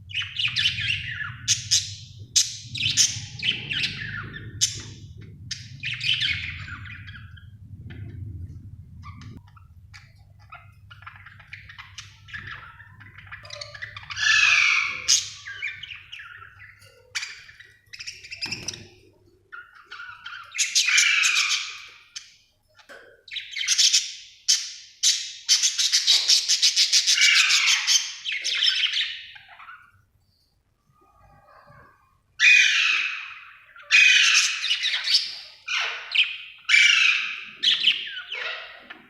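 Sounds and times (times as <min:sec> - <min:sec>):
budgerigar chirping and warbling: 0:00.1 - 0:07.5, 0:09.0 - 0:18.9, 0:19.5 - 0:22.2, 0:23.3 - 0:29.9, 0:31.4 - 0:39.0.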